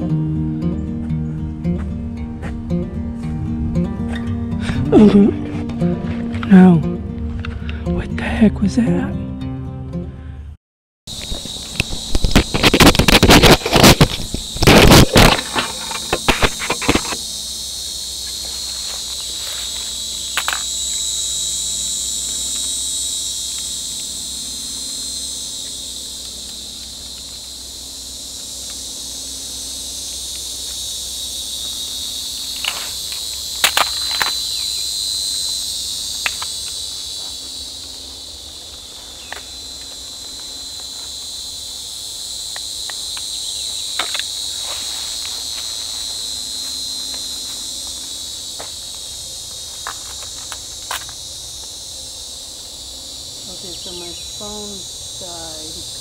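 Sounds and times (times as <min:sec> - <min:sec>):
high buzzing insect chorus: 0:00.0 - 0:10.4, 0:11.1 - 0:56.0.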